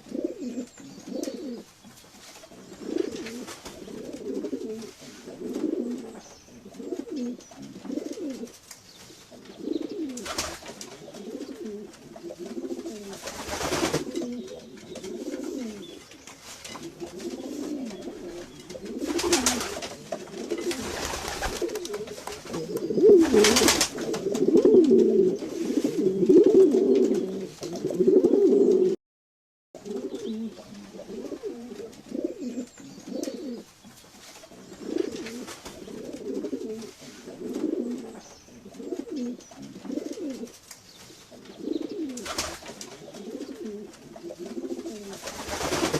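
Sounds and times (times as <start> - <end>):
pigeons cooing: 0.0 - 1.7, 2.5 - 29.0, 29.8 - 33.7, 34.5 - 45.9.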